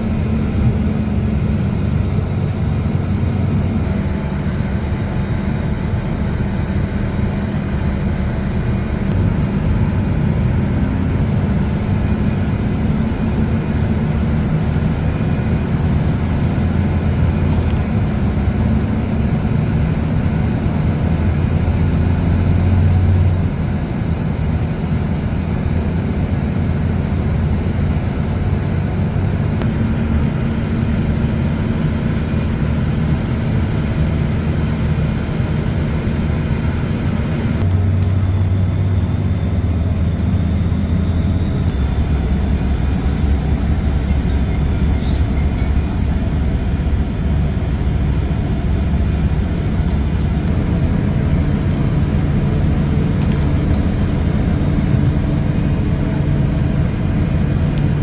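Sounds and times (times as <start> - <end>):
train rumble with engine hum: 0.0 - 58.0.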